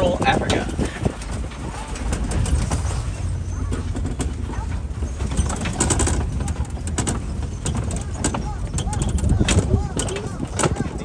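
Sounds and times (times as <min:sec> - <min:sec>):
truck engine and road rumble: 0:00.0 - 0:11.0
vehicle rattles and knocks: 0:00.0 - 0:11.0.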